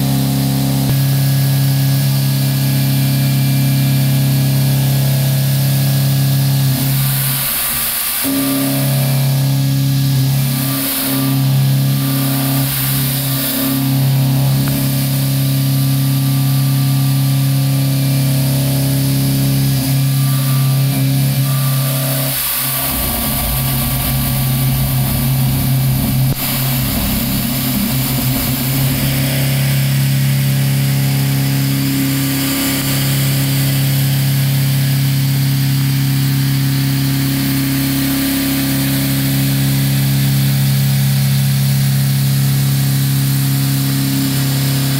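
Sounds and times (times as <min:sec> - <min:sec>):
machining hum: 0:00.0 - 0:44.9.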